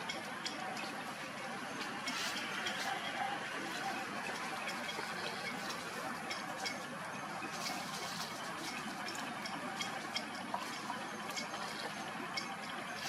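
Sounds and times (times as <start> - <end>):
steady noisy background: 0.0 - 13.0.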